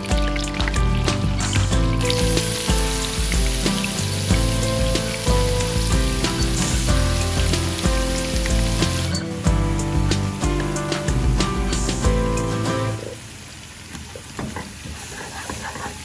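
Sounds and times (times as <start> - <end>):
background music: 0.0 - 13.3
food sizzling in hot oil: 0.0 - 16.0.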